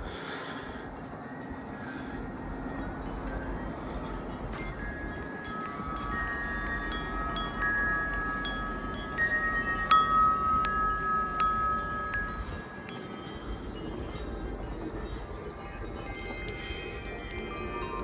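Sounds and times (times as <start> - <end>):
wind chime ringing: 0.8 - 18.0.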